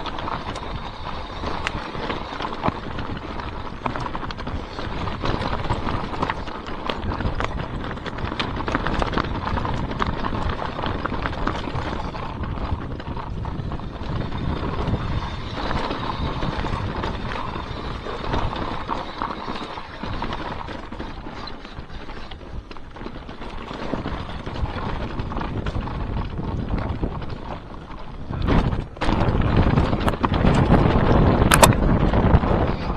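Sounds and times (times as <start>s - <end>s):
bike rattling over bumps: 0.0s - 32.9s
tyre noise on dirt: 0.0s - 32.9s
wind buffeting microphone: 0.0s - 32.9s.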